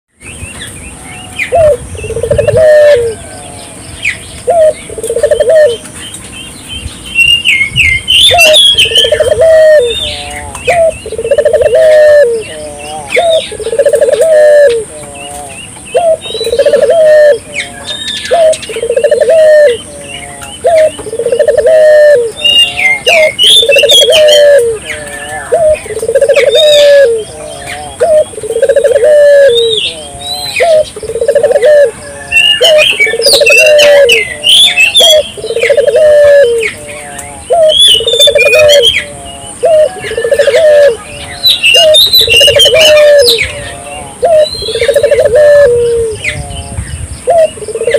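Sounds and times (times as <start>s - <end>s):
small birds chirping and whistling: 0.2s - 47.9s
doves cooing: 0.7s - 6.1s, 7.8s - 47.9s.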